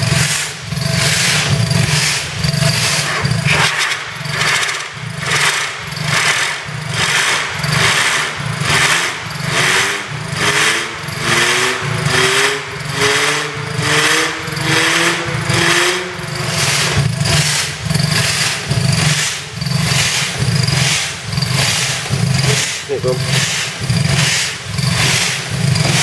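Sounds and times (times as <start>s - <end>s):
steam air compressor chuffing: 0.0s - 26.0s.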